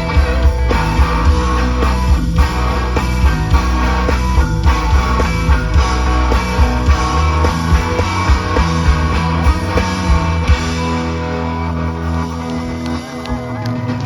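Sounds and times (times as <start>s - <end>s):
drum kit: 0.0s - 14.0s
electric guitars: 0.0s - 14.0s.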